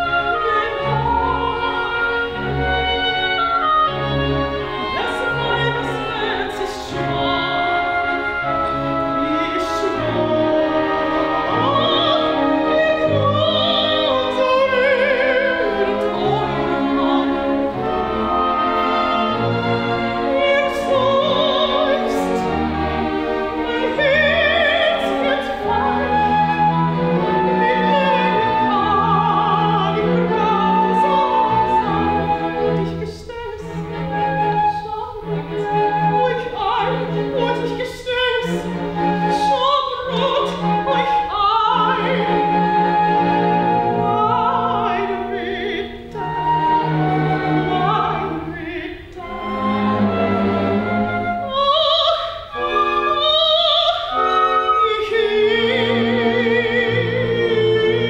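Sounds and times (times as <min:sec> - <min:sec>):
operatic soprano singing: 0:00.0 - 0:58.0
symphony orchestra: 0:00.0 - 0:58.0.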